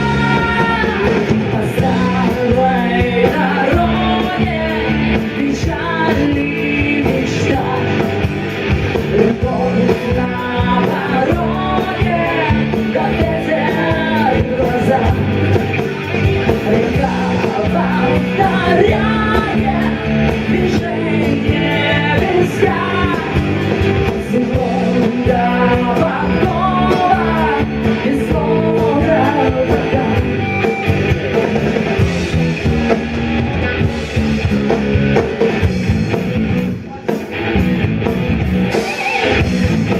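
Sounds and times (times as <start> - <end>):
song with full band and singer: 0.0 - 39.9.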